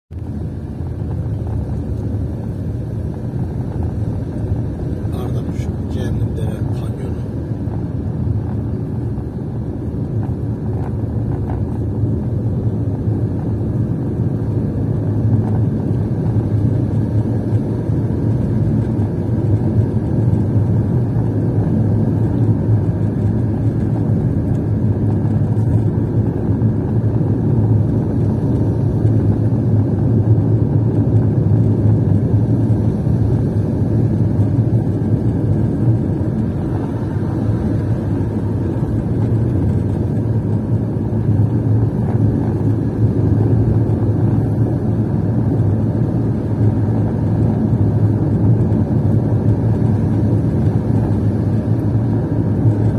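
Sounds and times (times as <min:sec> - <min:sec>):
car road and engine drone: 0:00.1 - 0:52.9.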